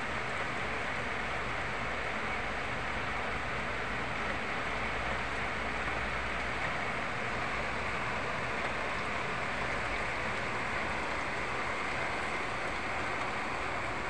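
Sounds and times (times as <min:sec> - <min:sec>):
heavy rain downpour: 0:00.0 - 0:14.0.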